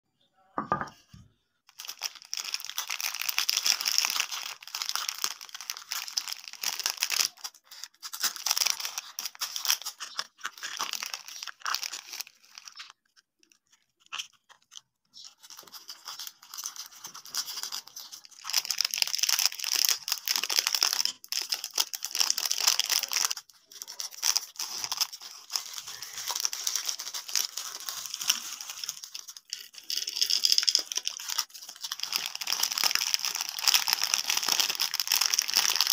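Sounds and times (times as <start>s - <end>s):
plastic wrappers crinkling and tearing: 1.7s - 35.9s.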